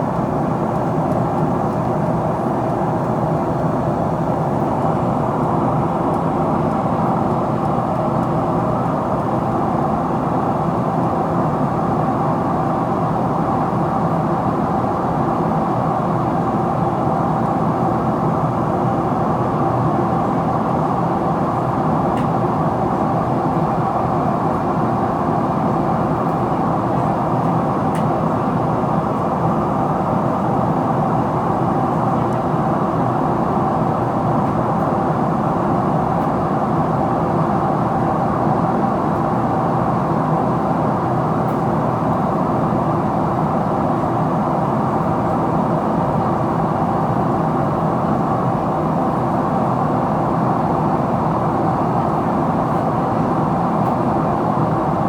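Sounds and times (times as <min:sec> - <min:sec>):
jet engine hum: 0:00.0 - 0:55.0.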